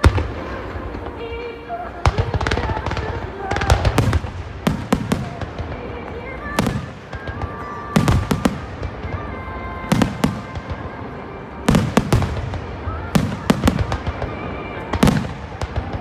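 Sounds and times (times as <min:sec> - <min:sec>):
fireworks bursting with bangs: 0:00.0 - 0:16.0.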